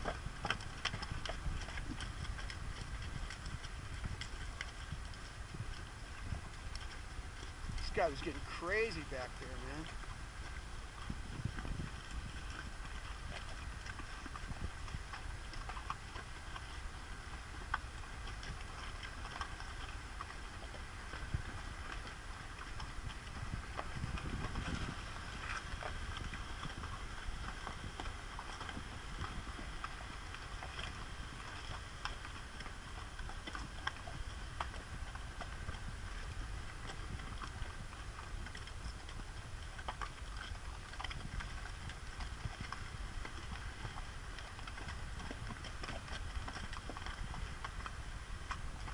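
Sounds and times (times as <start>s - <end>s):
hooves clopping on rock: 0.0s - 48.9s.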